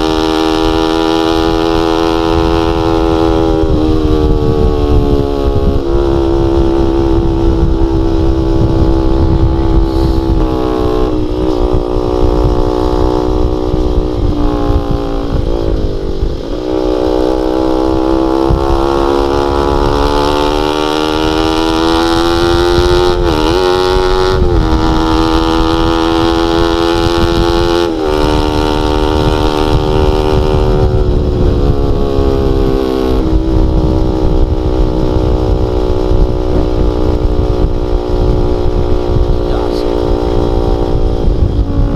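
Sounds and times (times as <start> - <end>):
motorcycle engine running loud: 0.0 - 41.9.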